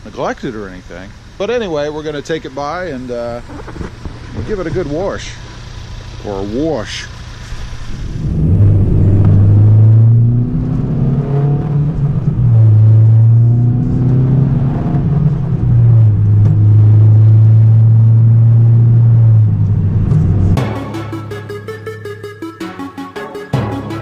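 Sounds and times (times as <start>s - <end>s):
car engine accelerating hard: 0.6s - 21.6s.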